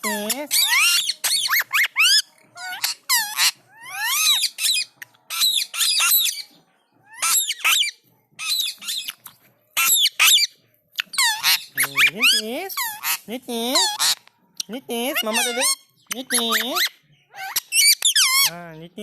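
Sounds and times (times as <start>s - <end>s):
parrots screeching: 0.0s - 18.6s.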